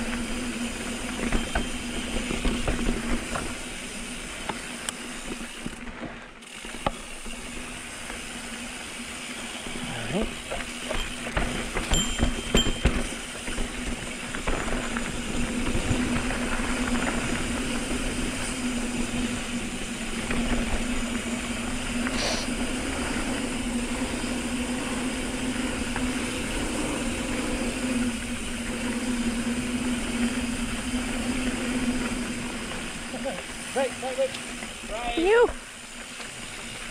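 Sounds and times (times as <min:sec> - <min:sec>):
bicycle freewheel buzzing: 0:00.0 - 0:36.9
tyres rolling on dirt: 0:00.0 - 0:36.9.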